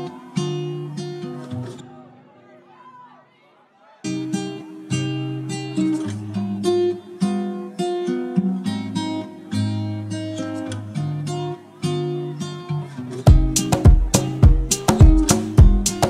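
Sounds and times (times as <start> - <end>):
acoustic guitar picking and strumming: 0.0 - 2.0, 4.0 - 16.0.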